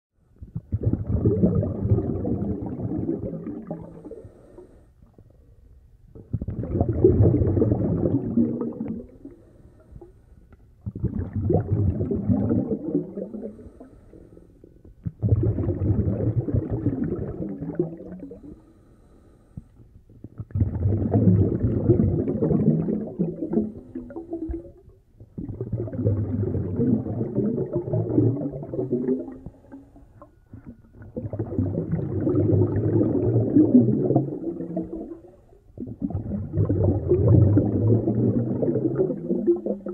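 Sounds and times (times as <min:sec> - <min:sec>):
muffled underwater rumbling: 0:00.4 - 0:18.6, 0:19.9 - 0:39.9.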